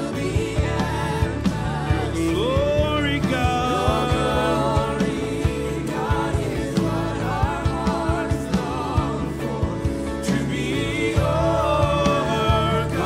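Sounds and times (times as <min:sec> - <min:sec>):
man singing gospel song: 0:00.0 - 0:13.0.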